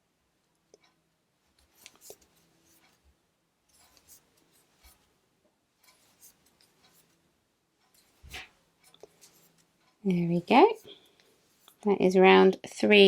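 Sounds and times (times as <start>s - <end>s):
crochet hook working yarn: 0.7s - 11.9s.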